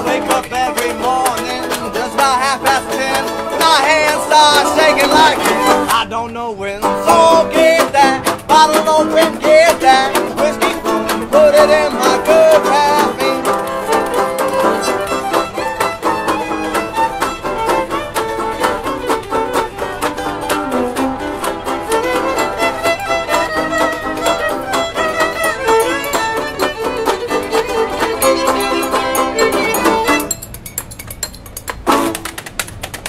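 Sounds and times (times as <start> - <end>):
fiddle lead: 0.0 - 6.0, 7.1 - 30.3
string band playing: 0.0 - 32.9.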